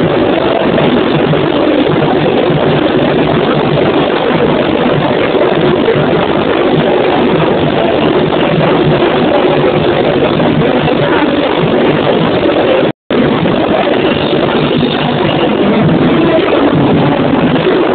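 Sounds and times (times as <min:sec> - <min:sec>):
low drum pulse: 0:00.0 - 0:17.9
samba drums and percussion: 0:00.0 - 0:17.9.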